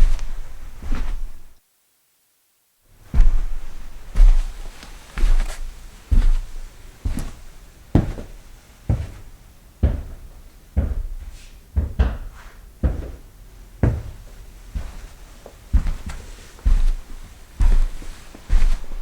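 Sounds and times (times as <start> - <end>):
footsteps on hard floor and carpet: 0.0 - 1.6, 3.0 - 19.0.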